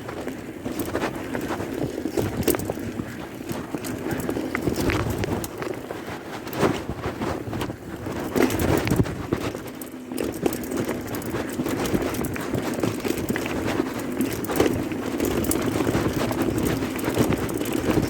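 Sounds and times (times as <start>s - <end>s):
bicycle rattling on rough trail: 0.0s - 18.0s
wind noise: 0.0s - 18.0s.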